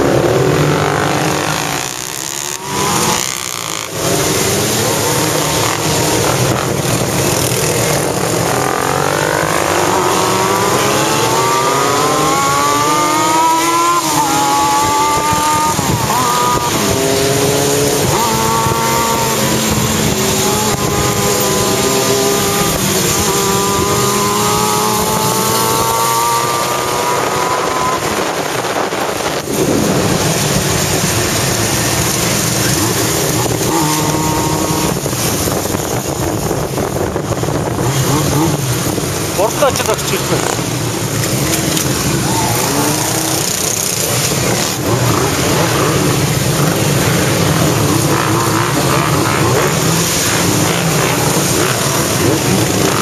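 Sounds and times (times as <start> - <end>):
motorcycle engines accelerating: 0.0 - 53.0
wind and road noise: 0.0 - 53.0.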